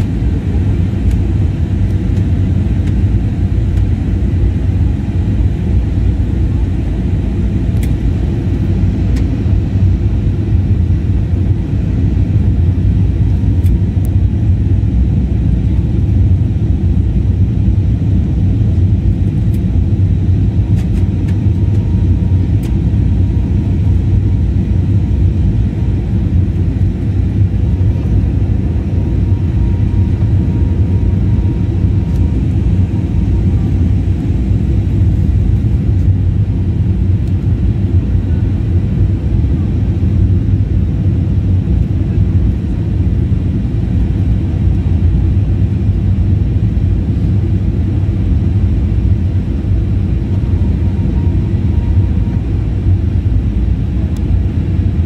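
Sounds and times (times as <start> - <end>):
jet airliner cabin rumble: 0.0 - 55.0.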